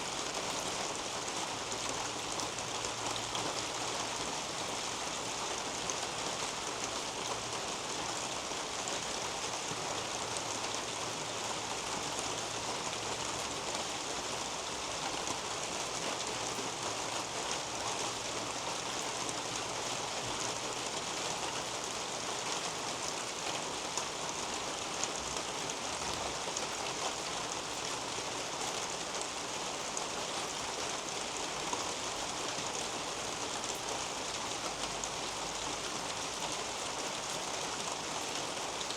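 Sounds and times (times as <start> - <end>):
rain on leaves and roof: 0.0 - 38.9.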